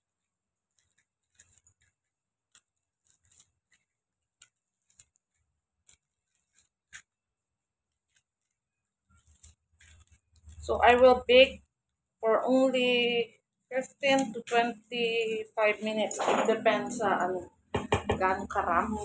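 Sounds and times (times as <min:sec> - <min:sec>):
paper cupcake liners crinkling: 0:00.0 - 0:11.7, 0:13.7 - 0:17.3.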